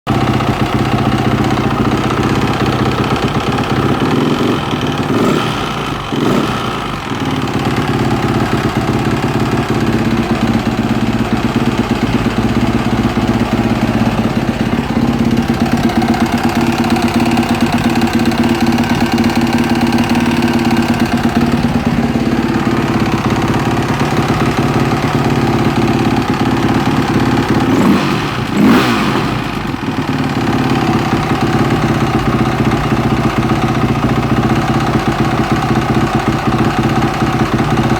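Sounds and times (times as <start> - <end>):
motorcycle engine idling and revving: 0.0 - 37.9.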